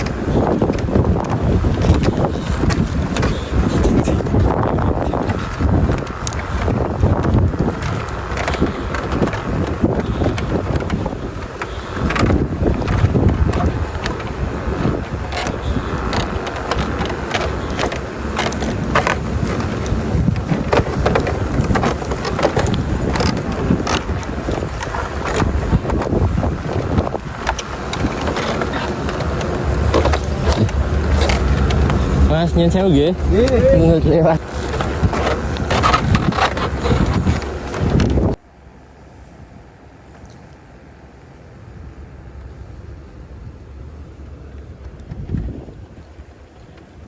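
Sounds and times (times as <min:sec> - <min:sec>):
knocks and rattles: 0:00.0 - 0:38.4
wind buffeting microphone: 0:00.0 - 0:38.4, 0:41.6 - 0:47.0
vehicle on bumpy track: 0:00.0 - 0:38.6, 0:39.7 - 0:47.0.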